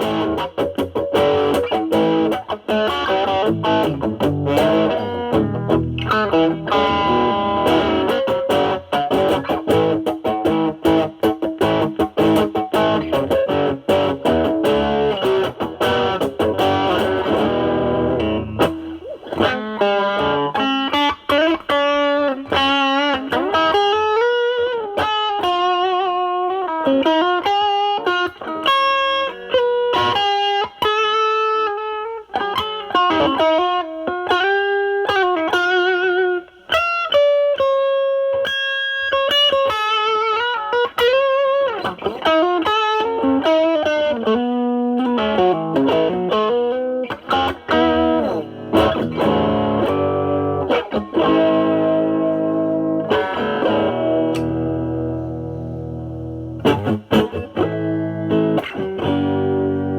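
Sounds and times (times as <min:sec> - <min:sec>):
overdriven electric guitar playing: 0:00.0 - 0:59.9.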